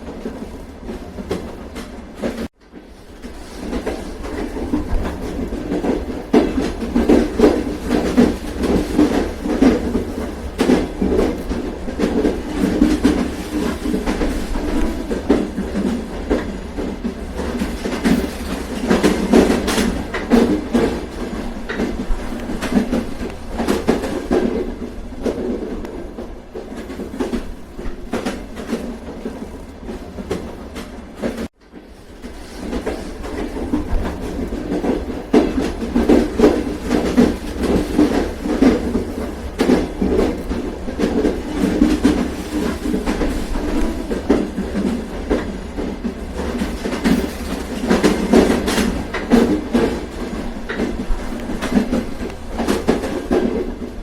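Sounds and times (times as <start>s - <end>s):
train rumbling: 0.0s - 54.0s
wheels clicking over rail joints: 0.0s - 54.0s.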